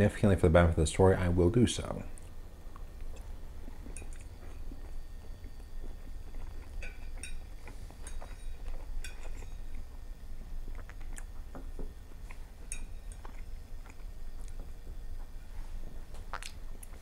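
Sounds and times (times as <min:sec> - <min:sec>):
steady low hum: 0:00.0 - 0:17.0
chewing: 0:02.2 - 0:17.0.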